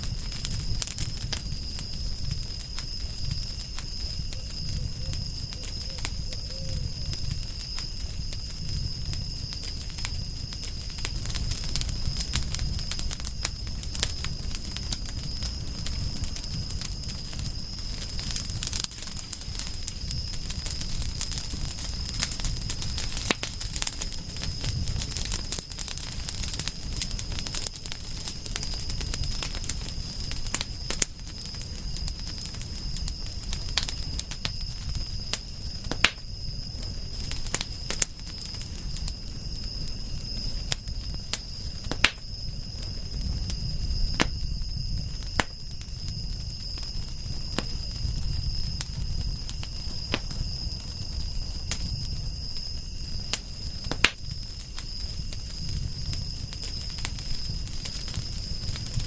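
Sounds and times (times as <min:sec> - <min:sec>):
campfire crackling and popping: 0:00.0 - 0:59.0
flames rumbling: 0:00.0 - 0:59.0.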